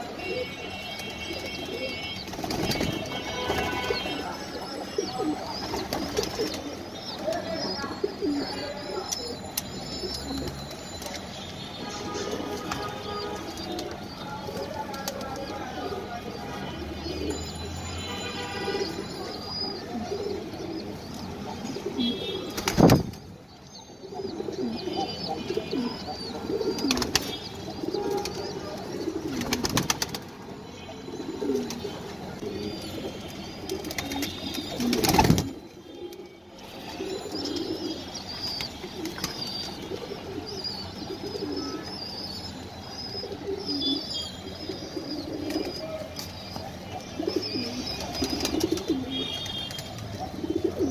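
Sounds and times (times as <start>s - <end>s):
pigeons cooing: 0.0s - 10.6s, 15.7s - 17.6s, 18.8s - 23.0s, 24.0s - 30.2s, 30.9s - 50.9s.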